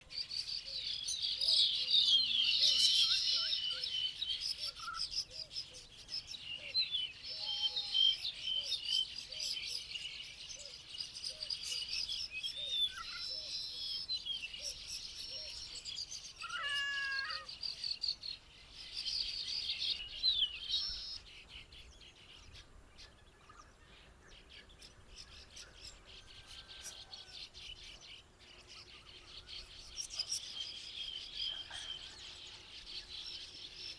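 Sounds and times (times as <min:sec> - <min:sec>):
birds singing and chirping: 0:00.1 - 0:33.9.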